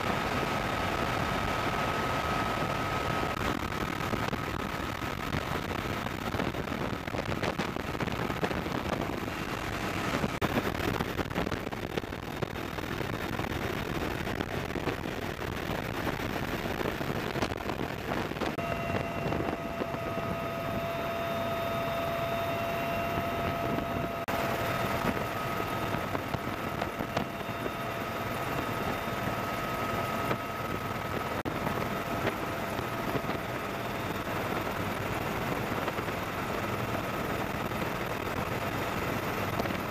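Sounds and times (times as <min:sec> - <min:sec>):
helicopter rotor and turbine: 0:00.0 - 0:39.9
steady whine: 0:00.0 - 0:39.9
wind rush: 0:00.0 - 0:39.9.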